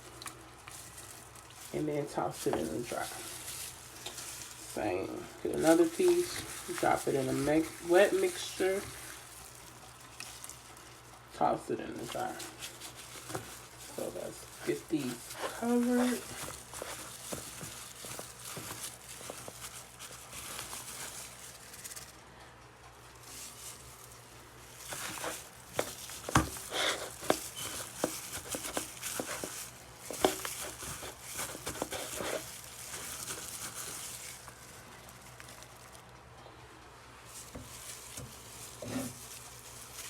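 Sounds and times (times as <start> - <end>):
chicken rustling in breading: 0.0 - 40.0.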